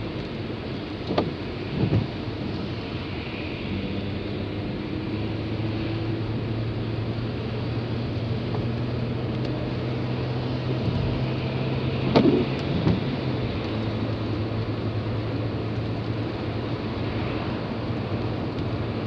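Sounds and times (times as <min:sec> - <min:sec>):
engine and road hum: 0:00.0 - 0:19.0.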